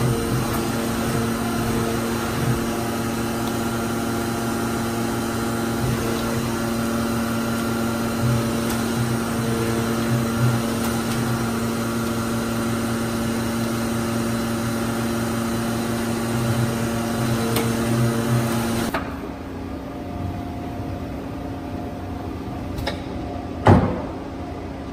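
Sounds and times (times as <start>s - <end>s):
machining center hum and whine: 0.0s - 24.9s.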